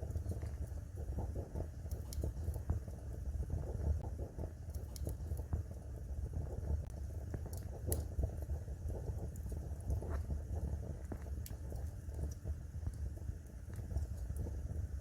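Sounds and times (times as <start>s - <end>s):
sharp fire snaps: 0.0s - 3.0s, 3.7s - 5.8s, 6.8s - 15.0s
fireplace fire crackling: 0.0s - 15.0s.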